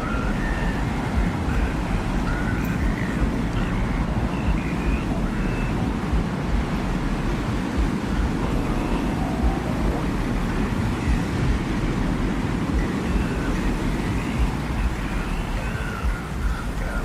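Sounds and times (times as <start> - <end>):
deep rumbling wind: 0.0 - 17.0.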